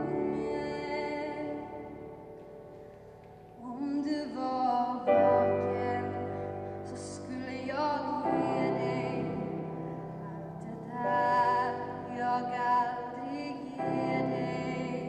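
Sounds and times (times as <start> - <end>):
grand piano chords: 0.0 - 15.0
woman singing a slow ballad: 0.0 - 15.0.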